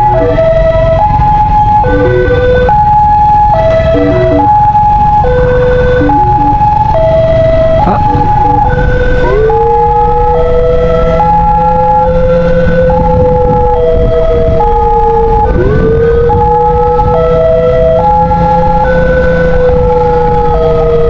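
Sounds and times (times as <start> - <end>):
ambulance siren stepped tones: 0.0 - 21.0
engine and road rumble: 0.0 - 21.0
second siren rising in pitch: 0.0 - 21.0.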